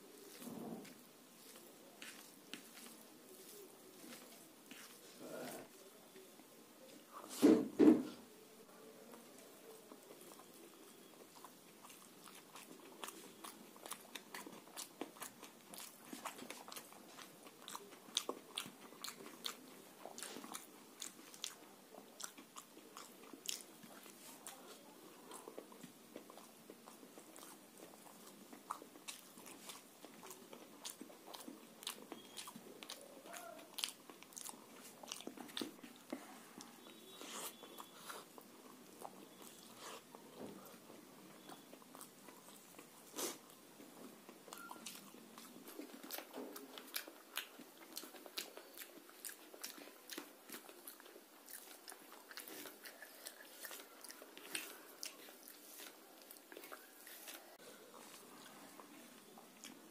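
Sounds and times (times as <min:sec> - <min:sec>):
chewing and biting: 0:09.8 - 0:59.9.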